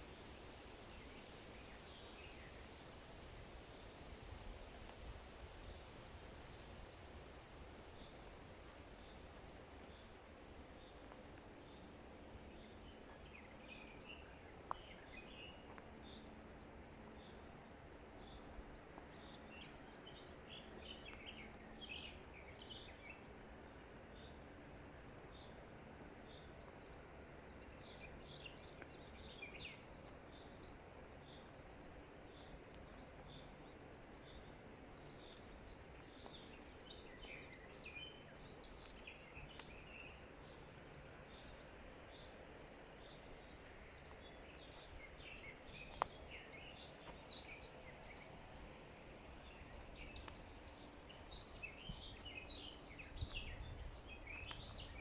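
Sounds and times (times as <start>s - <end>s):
faint background hiss: 0.0s - 55.0s
birds chirping and twittering: 5.6s - 24.6s, 25.2s - 55.0s.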